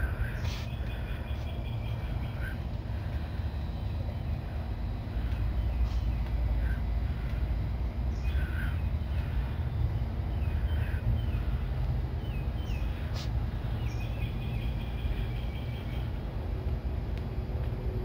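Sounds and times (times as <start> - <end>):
birds calling: 0.0 - 17.3
low rumble: 0.0 - 18.0
rapid repeated bird notes: 0.0 - 18.0.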